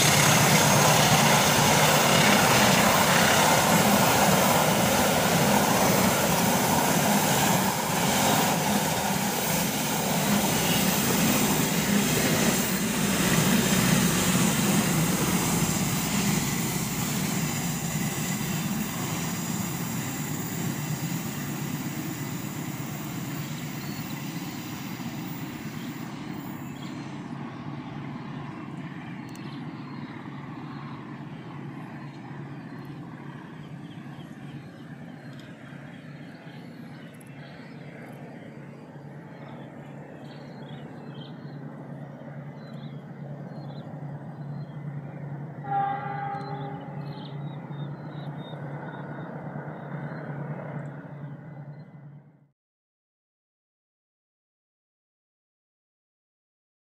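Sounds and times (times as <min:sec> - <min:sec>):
train rumbling past: 0:00.0 - 0:52.5.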